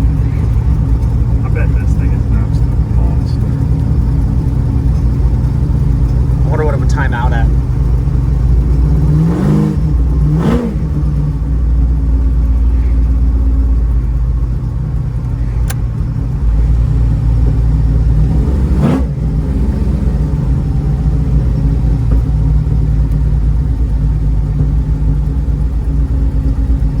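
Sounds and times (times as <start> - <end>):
car engine driving: 0.0 - 27.0.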